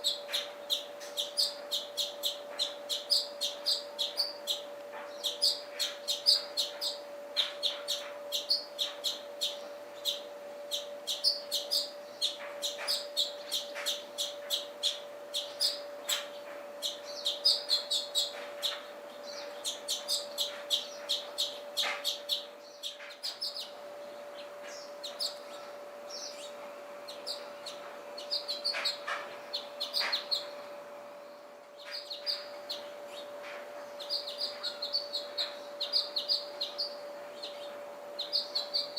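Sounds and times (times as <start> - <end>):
faint steady hum: 0.0 - 38.9
small birds chirping: 0.0 - 38.9.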